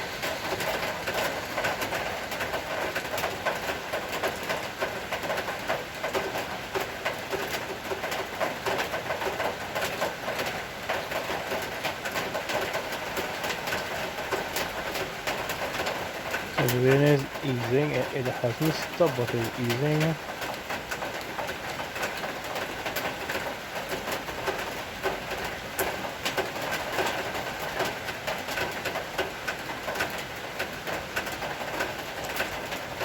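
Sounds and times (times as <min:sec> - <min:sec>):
rain falling steadily: 0:00.0 - 0:33.0.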